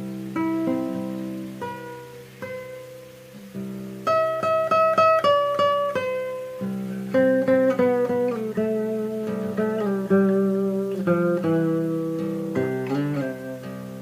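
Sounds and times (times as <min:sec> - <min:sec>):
solo guitar: 0:00.0 - 0:14.0.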